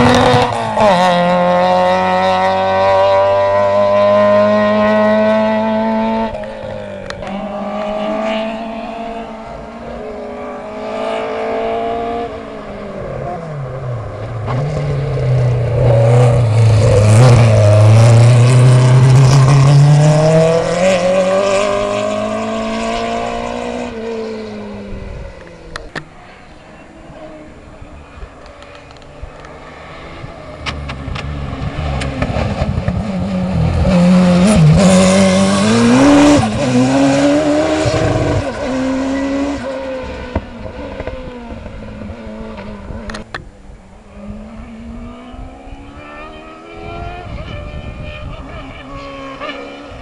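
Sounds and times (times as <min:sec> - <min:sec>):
race car engine at full throttle: 0:00.0 - 0:50.0
second car engine approaching: 0:00.0 - 0:50.0.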